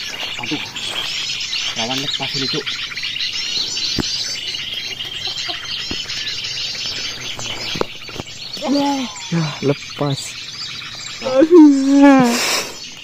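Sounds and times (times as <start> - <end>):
high bird trill: 0.0 - 13.0
small birds chirping: 0.0 - 13.0.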